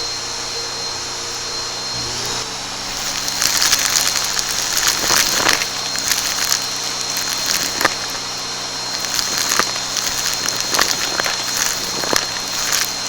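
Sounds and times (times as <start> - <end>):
vacuum cleaner running: 0.0 - 13.0
debris crackling in vacuum: 1.8 - 13.0.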